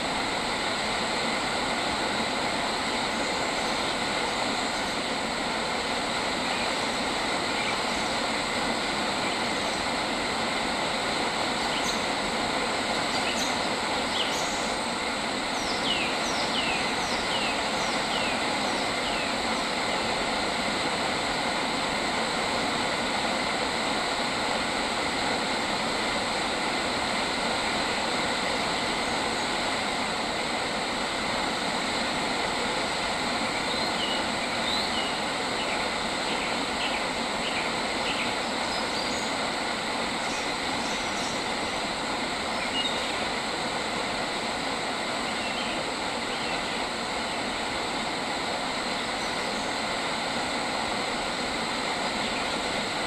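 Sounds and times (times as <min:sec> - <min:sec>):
outdoor ambience hiss: 0:00.0 - 0:53.0.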